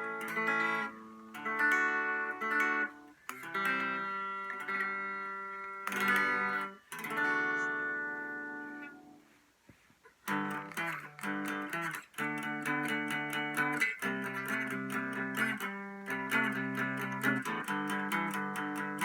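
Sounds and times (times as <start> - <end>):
electric guitar chords ringing: 0.0 - 9.2, 10.3 - 19.0.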